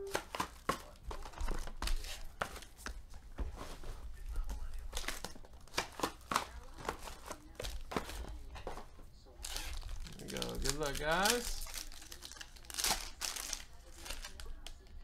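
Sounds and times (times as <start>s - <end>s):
foil crinkling: 0.0s - 15.0s.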